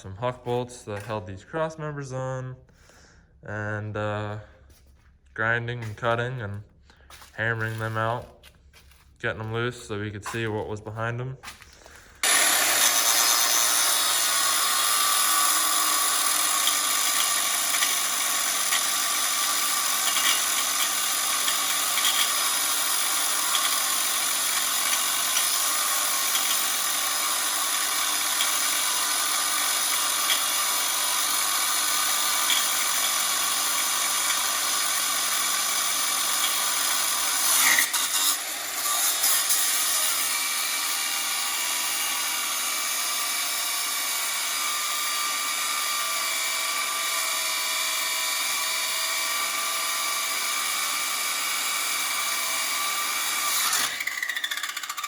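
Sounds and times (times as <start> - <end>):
grinder whining through metal: 10.2 - 55.0.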